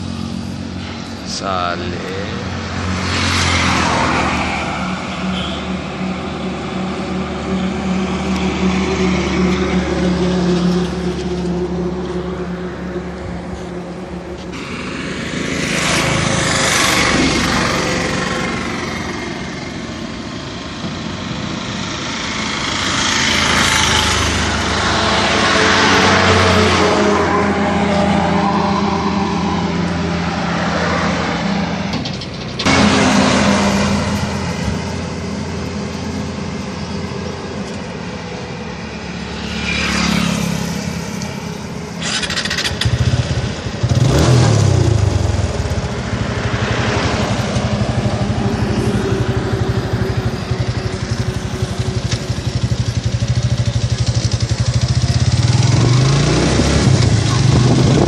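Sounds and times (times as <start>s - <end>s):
motorcycle engine revving: 0.0s - 20.2s, 21.0s - 58.0s.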